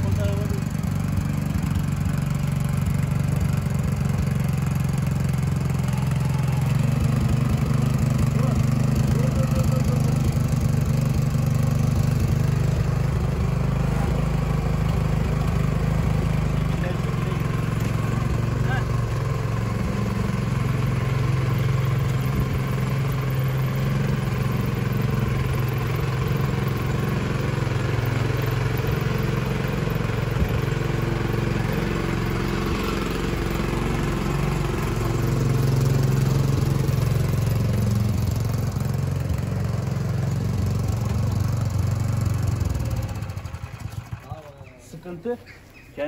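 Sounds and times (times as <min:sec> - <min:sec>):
single-cylinder engine running: 0:00.0 - 0:46.0.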